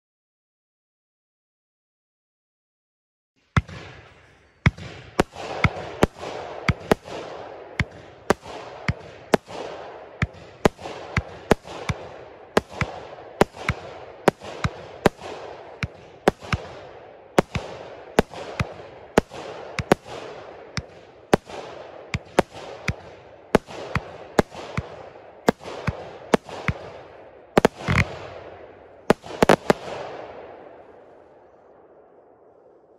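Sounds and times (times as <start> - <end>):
firework shots with hiss: 3.4 - 30.4.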